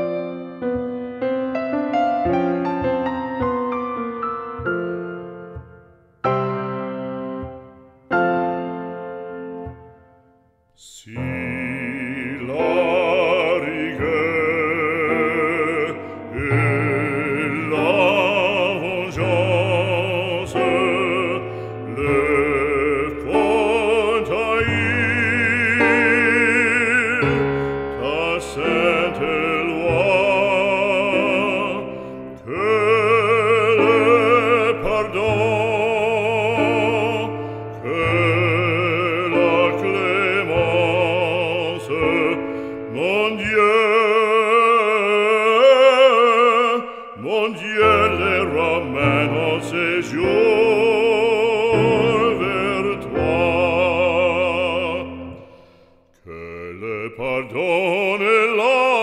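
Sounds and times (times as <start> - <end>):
classical accompaniment: 0.0 - 59.0
operatic voice singing: 10.8 - 59.0.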